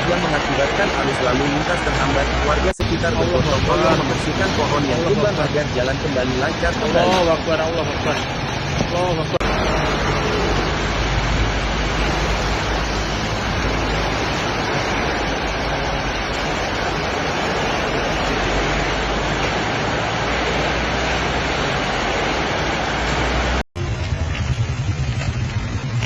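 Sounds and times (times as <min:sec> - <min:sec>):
heavy rain: 0:00.0 - 0:26.0
strong wind: 0:00.0 - 0:26.0.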